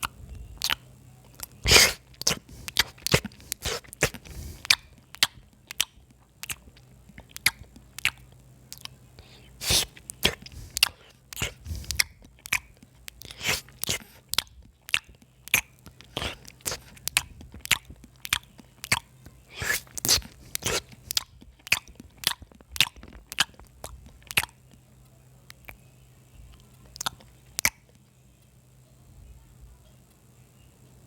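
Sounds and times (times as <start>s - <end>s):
wet mouth clicks: 0.0s - 24.8s, 26.5s - 28.0s
chewing and crunching food: 0.0s - 28.2s.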